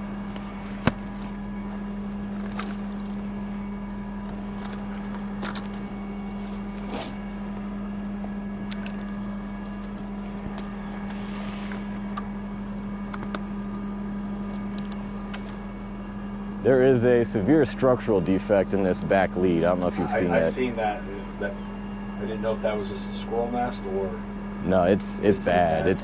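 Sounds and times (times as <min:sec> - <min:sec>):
truck engine humming: 0:00.0 - 0:26.0.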